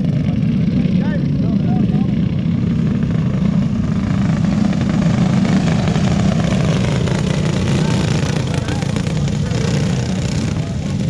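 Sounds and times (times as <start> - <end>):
go-kart engines droning: 0.0 - 11.0.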